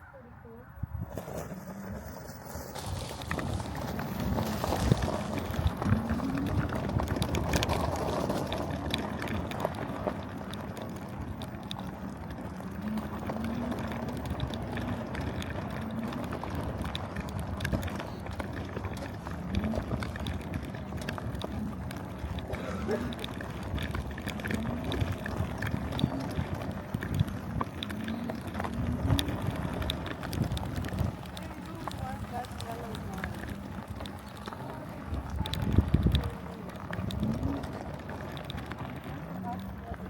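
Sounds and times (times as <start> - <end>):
rumble over the ground: 0.0 - 40.0
wind buffeting microphone: 0.0 - 40.0.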